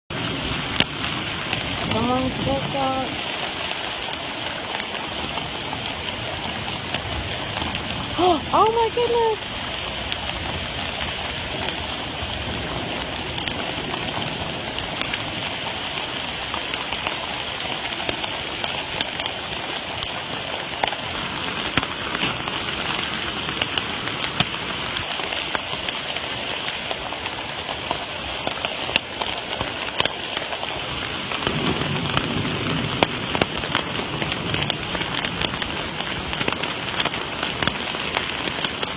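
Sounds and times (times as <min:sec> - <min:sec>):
raindrops ticking on surfaces: 0:00.1 - 0:38.9
steady rain falling: 0:00.1 - 0:38.9.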